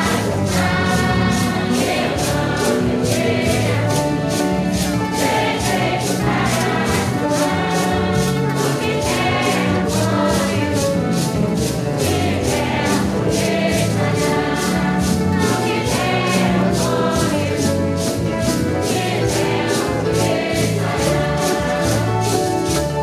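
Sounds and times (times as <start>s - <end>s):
congregation singing a hymn: 0.0s - 23.0s
maracas shaking: 0.0s - 23.0s.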